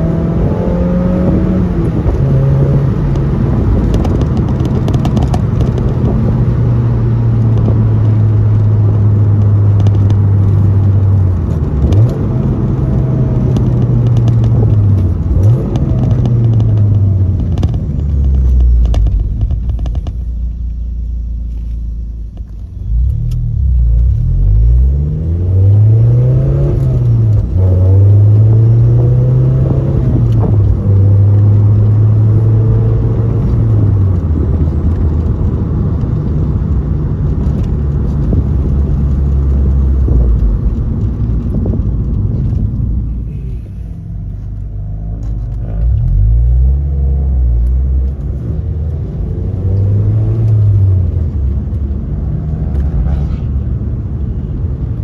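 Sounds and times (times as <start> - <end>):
car engine revving through gears: 0.0 - 20.4, 22.4 - 55.0.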